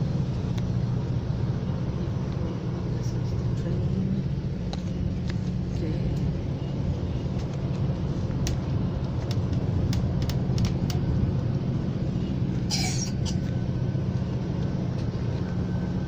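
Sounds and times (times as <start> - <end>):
train rumbling inside passenger car: 0.0 - 16.0.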